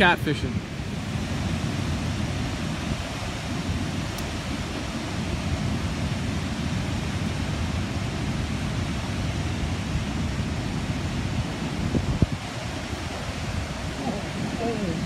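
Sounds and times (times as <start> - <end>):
river water rushing: 0.0 - 15.0
wind buffeting microphone: 0.0 - 15.0.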